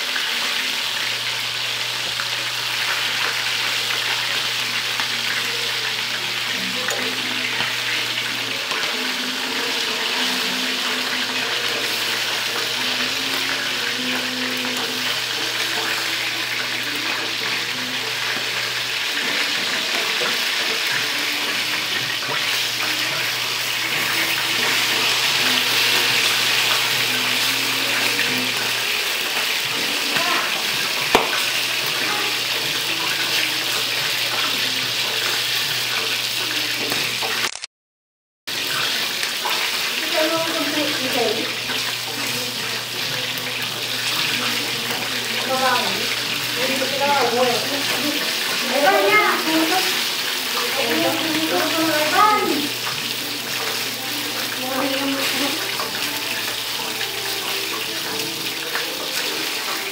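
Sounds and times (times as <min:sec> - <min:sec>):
chicken frying in oil: 0:00.0 - 0:37.7, 0:38.5 - 0:59.9.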